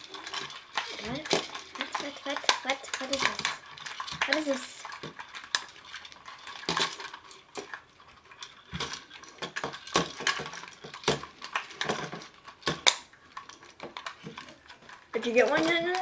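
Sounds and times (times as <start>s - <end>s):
metal chain clinking: 0.0s - 16.0s
plastic cuffs clacking on table: 0.0s - 16.0s.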